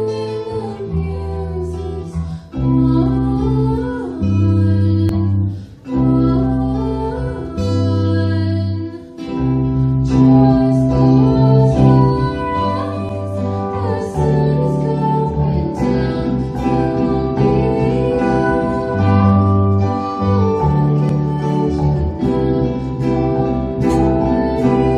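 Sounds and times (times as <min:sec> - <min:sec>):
electric keyboard: 0:00.0 - 0:24.9
strummed acoustic guitar: 0:00.0 - 0:24.9
woman singing into microphone: 0:00.0 - 0:24.9.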